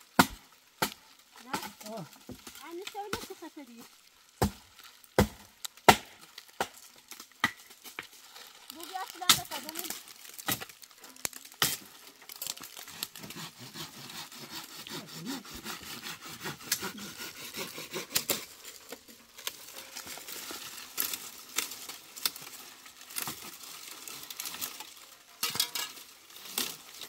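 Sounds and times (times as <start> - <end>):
dead leaves rustling: 0.0 - 27.0
twigs snapping: 0.2 - 15.0, 15.6 - 27.0.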